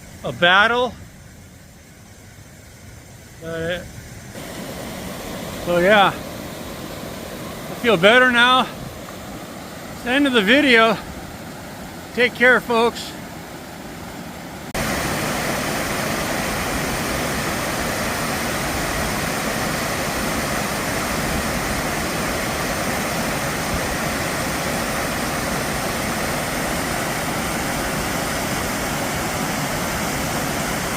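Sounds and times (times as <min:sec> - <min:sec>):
waterfall rushing: 0:04.4 - 0:30.9.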